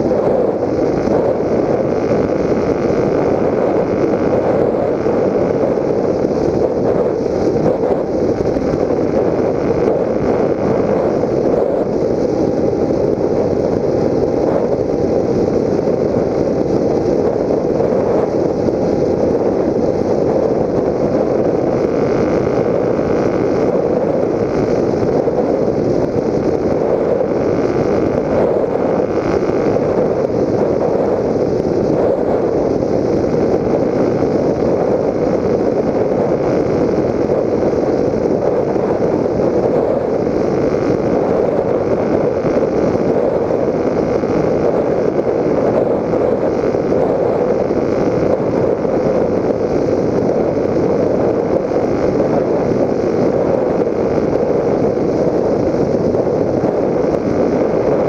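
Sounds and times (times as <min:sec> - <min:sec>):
faint steady whine: 0:00.0 - 0:58.0
rushing airflow and propeller noise: 0:00.0 - 0:58.0.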